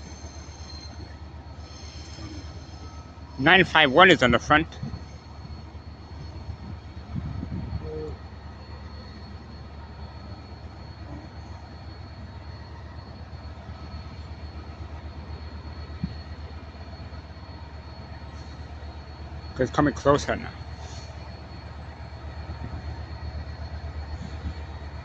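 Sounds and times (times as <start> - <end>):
diesel locomotive engine running: 0.0 - 25.0.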